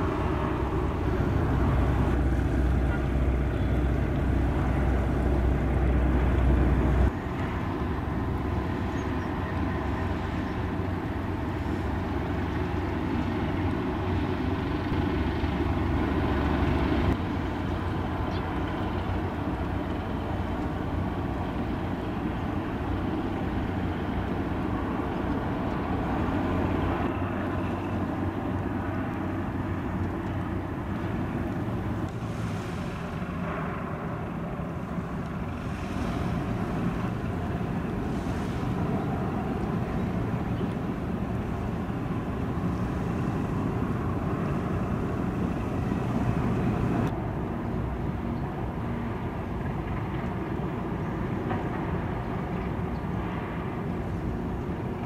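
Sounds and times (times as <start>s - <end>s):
shipyard noise: 0.0s - 55.0s
tugboat engines rumbling: 0.0s - 55.0s
wind on microphone: 0.0s - 55.0s.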